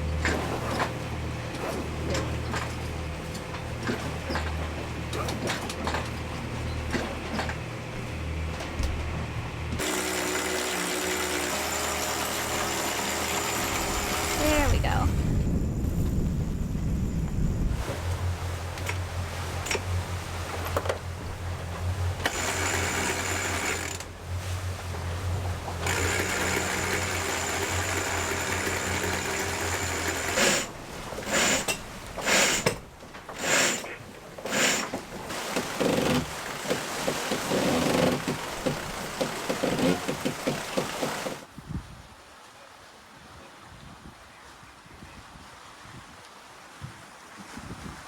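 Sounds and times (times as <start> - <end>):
electric winch motor whirring: 0.0 - 41.5.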